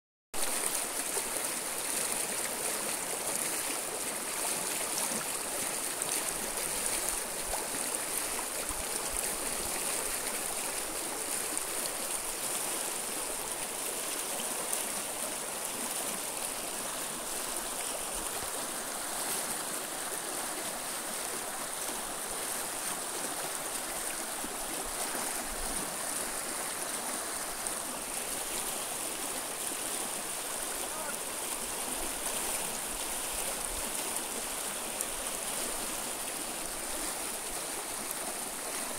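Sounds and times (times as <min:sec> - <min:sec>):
river rushing over stones: 0:00.4 - 0:38.9.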